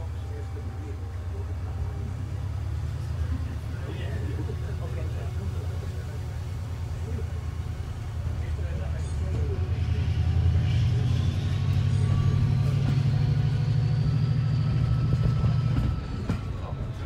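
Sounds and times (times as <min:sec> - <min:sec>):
diesel locomotive engine working hard: 0:00.0 - 0:17.0.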